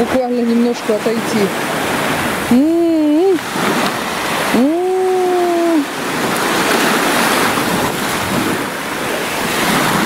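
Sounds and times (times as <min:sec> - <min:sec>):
sea water washing over seagrass: 0:00.0 - 0:10.0
wind on the microphone: 0:00.0 - 0:10.0.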